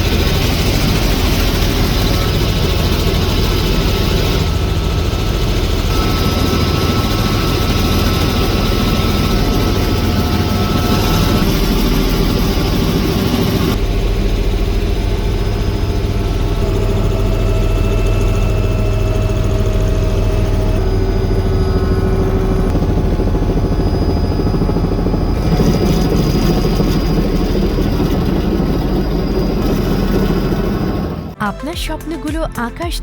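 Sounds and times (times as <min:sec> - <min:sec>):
helicopter rotor and engine: 0:00.0 - 0:31.4.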